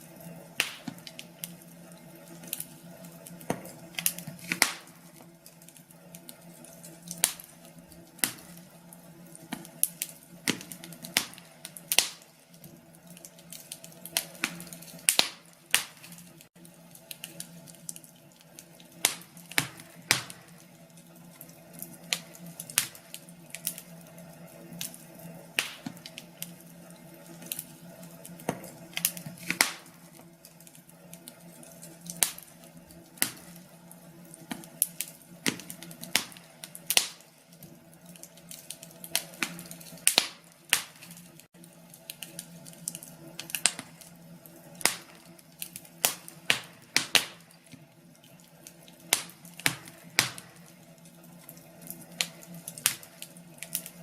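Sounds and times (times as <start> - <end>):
wood fire popping: 0.0 - 54.0.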